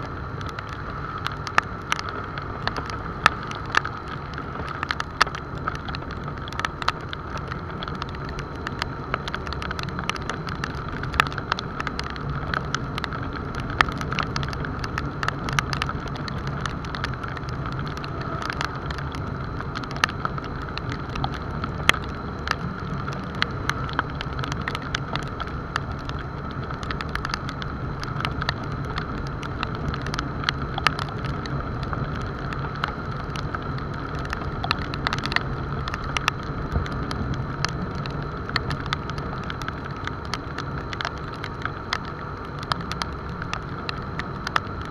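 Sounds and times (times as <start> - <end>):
raindrops clicking on camera: 0.0 - 44.9
tyre noise on wet road: 0.0 - 44.9
wind: 0.0 - 44.9.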